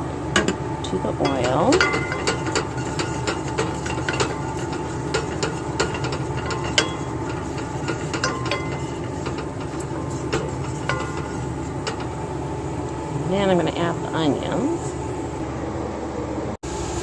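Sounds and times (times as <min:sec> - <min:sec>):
steady background hum: 0:00.0 - 0:17.0
spices frying in hot oil: 0:01.2 - 0:15.4.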